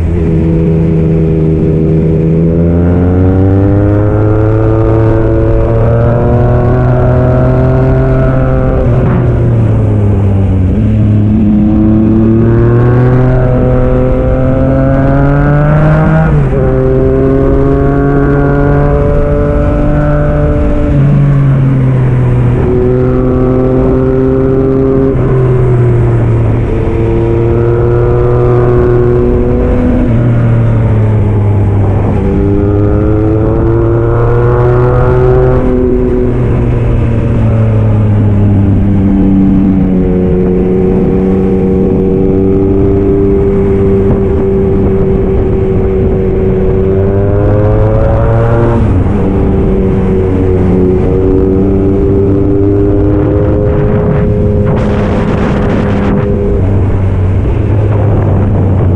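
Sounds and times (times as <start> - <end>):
motorcycle engine revving through gears: 0.0 - 58.9.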